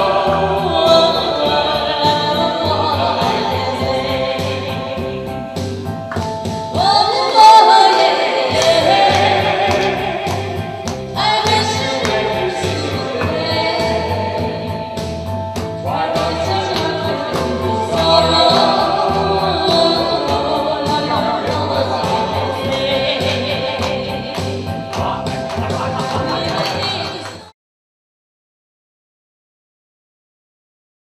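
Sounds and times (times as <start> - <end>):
man and woman singing duet: 0.0 - 5.4, 6.7 - 15.0, 15.7 - 27.4
karaoke backing track: 0.0 - 27.5.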